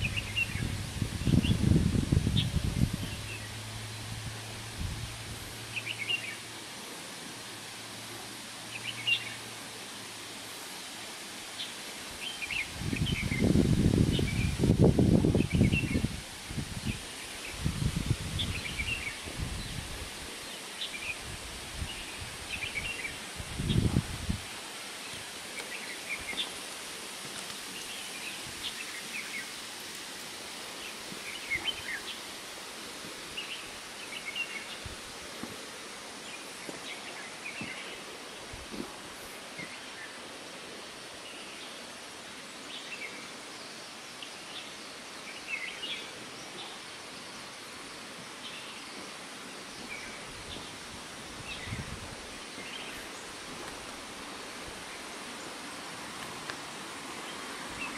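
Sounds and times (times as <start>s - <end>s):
background hiss: 0.0s - 57.9s.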